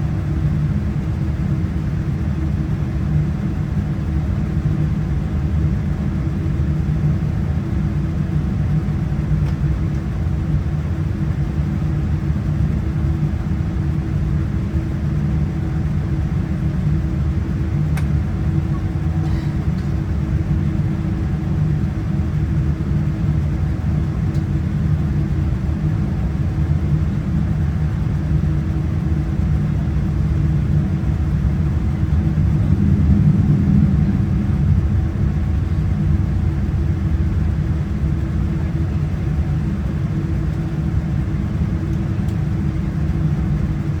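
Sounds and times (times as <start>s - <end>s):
jet engines rumbling in cabin: 0.0s - 44.0s.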